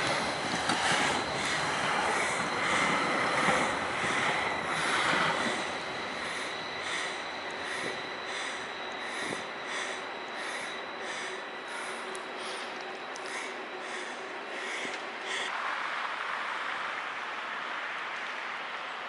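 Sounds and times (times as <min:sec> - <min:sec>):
tram wheels squealing on rails: 0:00.0 - 0:15.5
tram running rush: 0:00.0 - 0:19.0.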